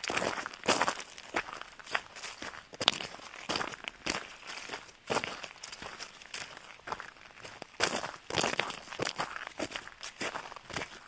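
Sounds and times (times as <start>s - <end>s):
footsteps on gravel: 0.0s - 11.0s.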